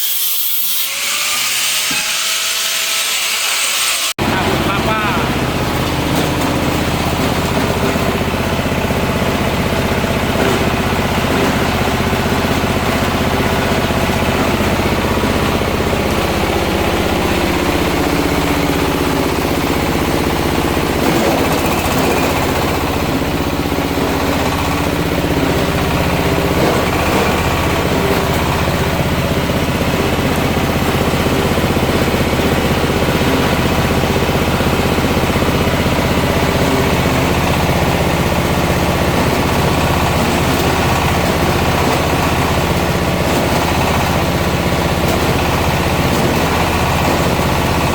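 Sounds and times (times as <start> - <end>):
engine humming: 4.2 - 47.9.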